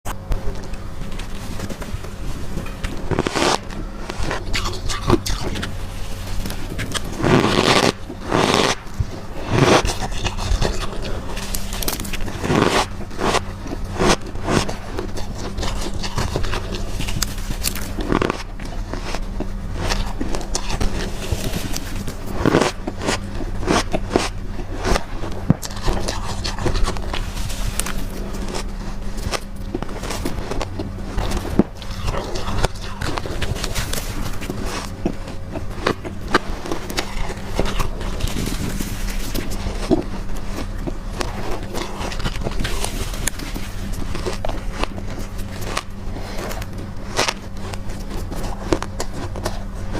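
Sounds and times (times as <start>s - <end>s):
crunching and chewing frost: 0.0s - 49.9s
low hum: 0.0s - 49.9s.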